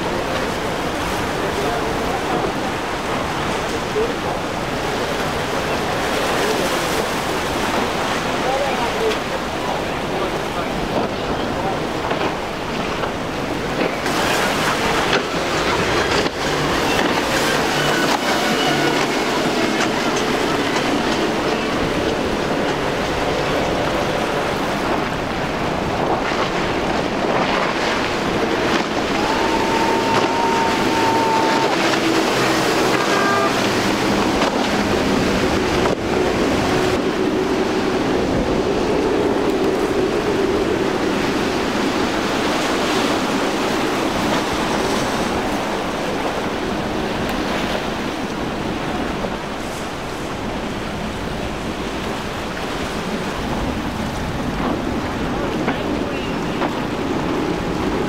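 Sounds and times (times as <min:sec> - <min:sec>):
boat engines droning: 0:00.0 - 0:58.0
wake and spray rushing: 0:00.0 - 0:58.0
wind buffeting microphone: 0:00.0 - 0:58.0.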